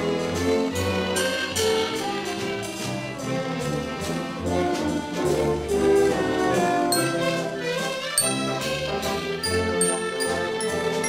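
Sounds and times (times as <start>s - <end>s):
orchestra playing a waltz: 0.0s - 11.0s.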